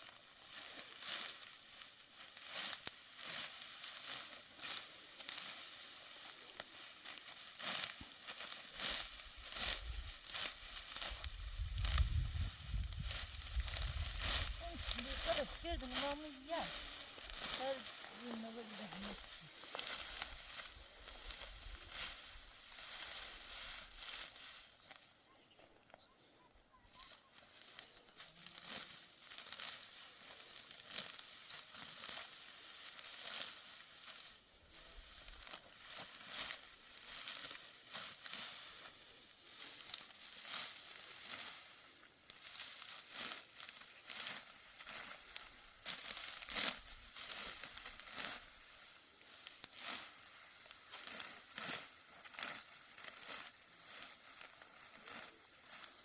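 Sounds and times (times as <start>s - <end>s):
dry wheat stalks crackling: 0.0s - 56.0s.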